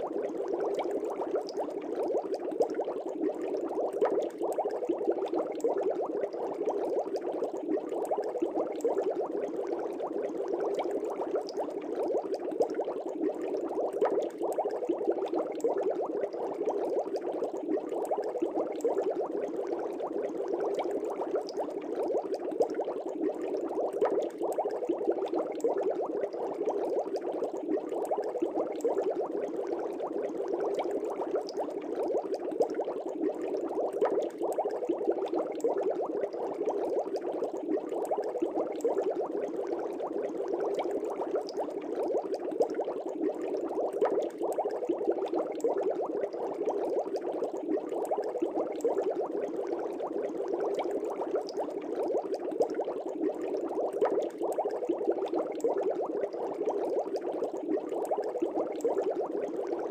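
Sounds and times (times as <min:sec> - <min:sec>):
aquarium air bubbles bubbling: 0:00.0 - 0:59.9.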